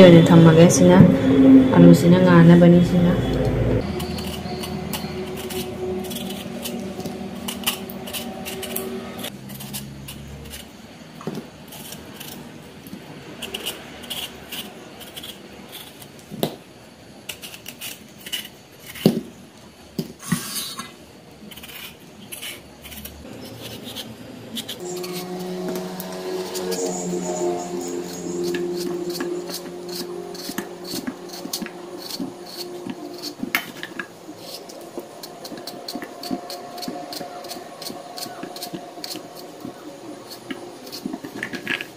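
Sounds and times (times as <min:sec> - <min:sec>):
knife scraping vegetable skin: 0:03.8 - 0:16.4, 0:17.2 - 0:19.4, 0:20.2 - 0:41.9.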